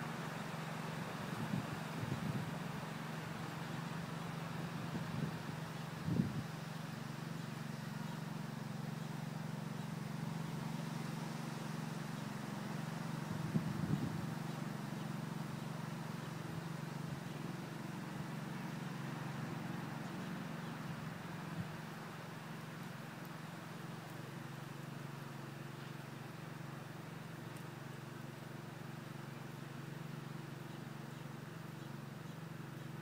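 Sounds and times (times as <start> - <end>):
low engine drone: 0.0 - 33.0.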